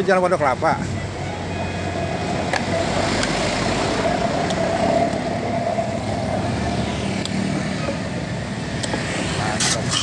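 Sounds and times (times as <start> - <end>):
passing vehicle engine hum: 0.0 - 10.0
traffic noise: 0.0 - 10.0.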